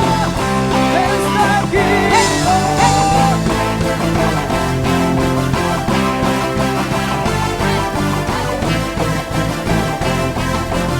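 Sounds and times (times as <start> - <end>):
instrumental worship music: 0.0 - 10.9.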